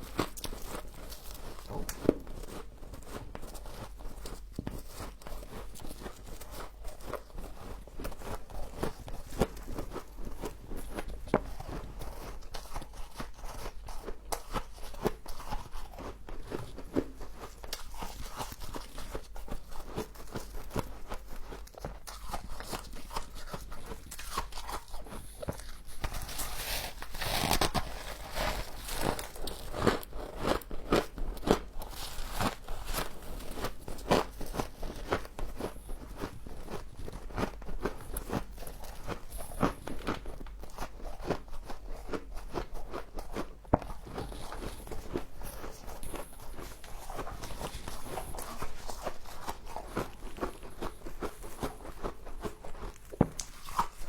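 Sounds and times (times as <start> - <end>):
frost crunched and chewed: 0.0 - 54.0.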